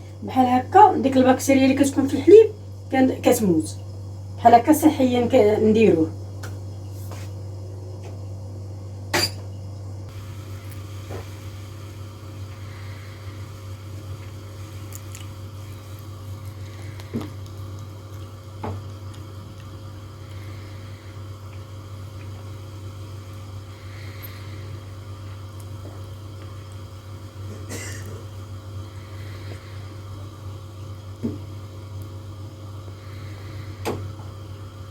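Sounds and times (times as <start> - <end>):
gas stove hum: 0.0 - 34.9.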